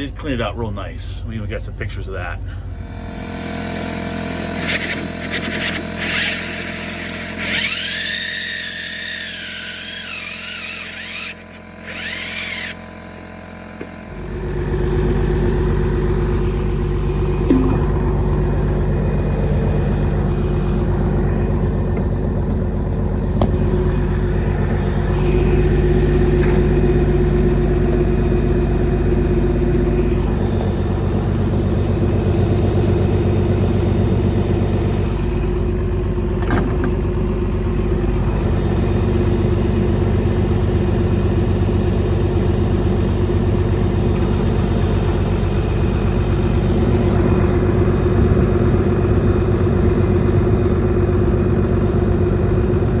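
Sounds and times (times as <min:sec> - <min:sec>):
diesel engine idling: 0:00.0 - 0:04.6, 0:06.1 - 0:53.0.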